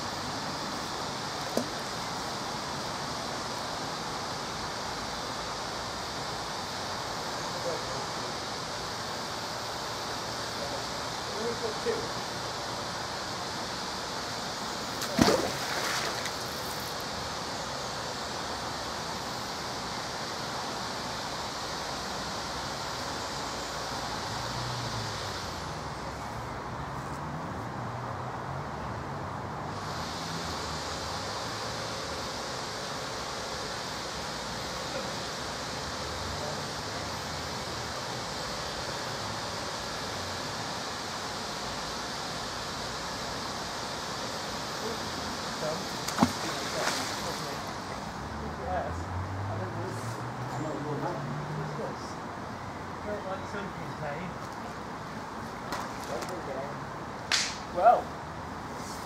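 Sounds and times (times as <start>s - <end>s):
rushing outdoor noise: 0.0s - 59.0s.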